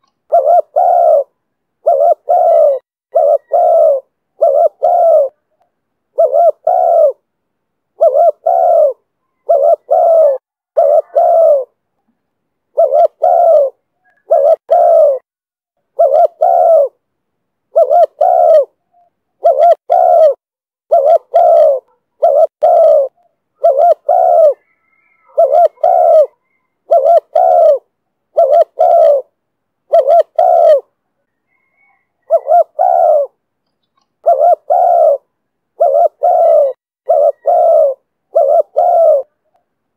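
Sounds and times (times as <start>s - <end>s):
dove cooing: 0.0s - 7.3s, 8.0s - 11.8s, 12.7s - 15.3s, 15.9s - 17.0s, 17.7s - 33.4s, 34.2s - 39.6s.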